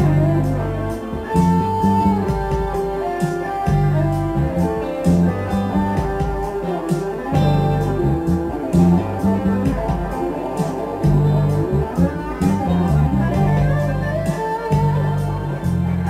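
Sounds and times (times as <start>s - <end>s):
backing track with bass and drums: 0.0s - 16.0s
electric guitar scale runs: 0.0s - 16.0s.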